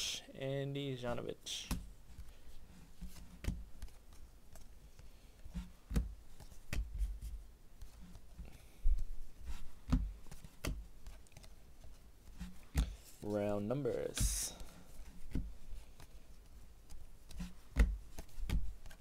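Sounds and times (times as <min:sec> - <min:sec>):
trading cards flipped by hand: 0:01.6 - 0:13.2, 0:13.9 - 0:19.0.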